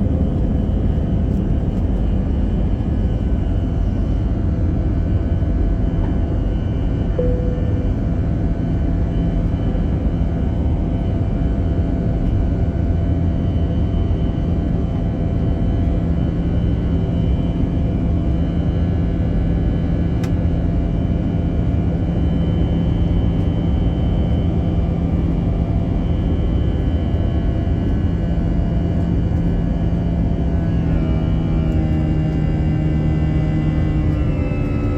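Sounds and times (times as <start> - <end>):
jet engine roar in cabin: 0.0 - 34.9.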